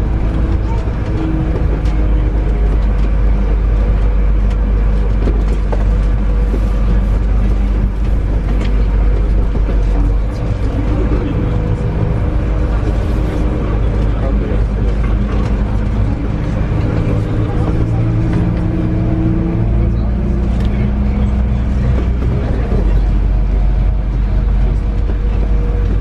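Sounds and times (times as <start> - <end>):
bus engine rumbling: 0.0 - 26.0
road noise: 0.0 - 26.0.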